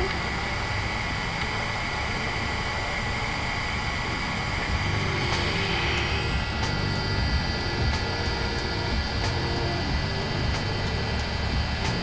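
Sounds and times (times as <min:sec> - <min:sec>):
heat gun fan whining: 0:00.0 - 0:12.0.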